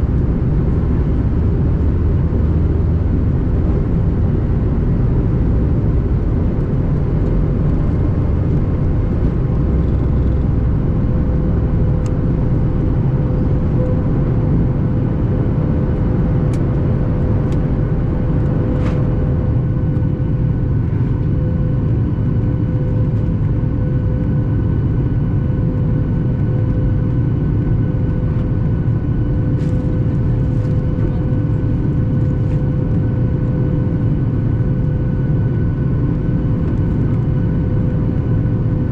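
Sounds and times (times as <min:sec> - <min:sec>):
high steady whine: 0:00.0 - 0:38.9
jet engine cabin roar: 0:00.0 - 0:38.9.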